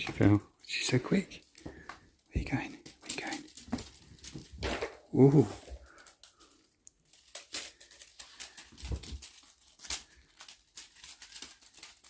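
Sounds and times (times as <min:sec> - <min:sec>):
crinkly toy rustling: 0:00.0 - 0:12.0.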